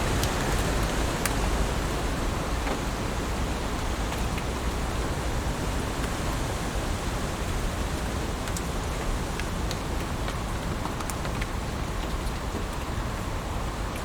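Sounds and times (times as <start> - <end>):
heavy rain falling: 0.0 - 13.9.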